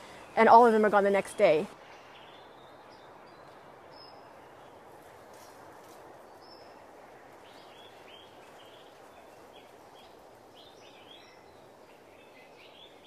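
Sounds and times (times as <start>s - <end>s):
low ambient hiss: 0.0s - 13.0s.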